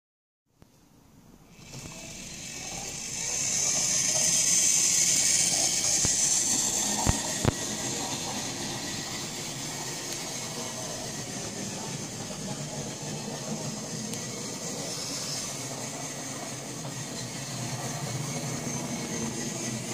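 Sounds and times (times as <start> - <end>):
model train motor whirring: 1.5 - 19.9.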